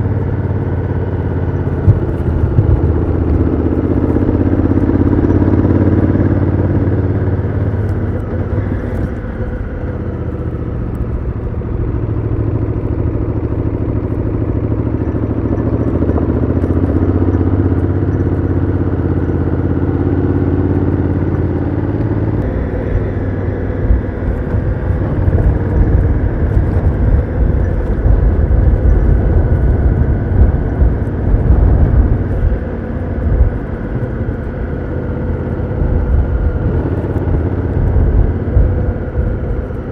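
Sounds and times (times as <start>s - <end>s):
motorcycle engine running: 0.0s - 39.9s
uneven low rumble: 0.0s - 39.9s.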